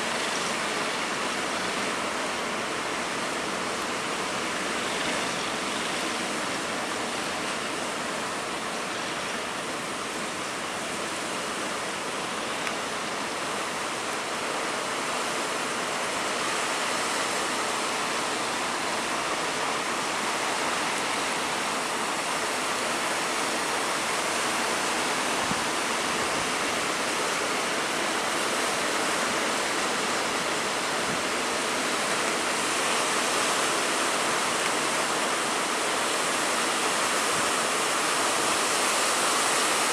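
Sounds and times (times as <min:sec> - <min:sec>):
surf and churning water: 0:00.0 - 0:39.9.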